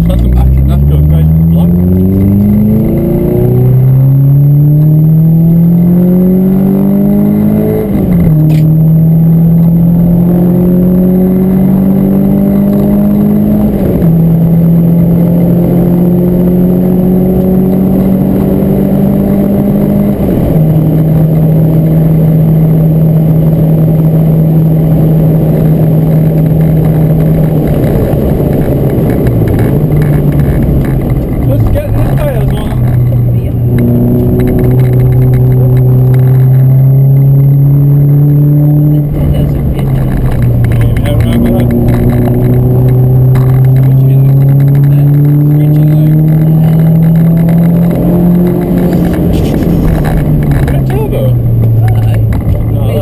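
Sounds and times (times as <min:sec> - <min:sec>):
car engine accelerating: 0:00.0 - 0:53.0
road and wind noise: 0:00.0 - 0:53.0.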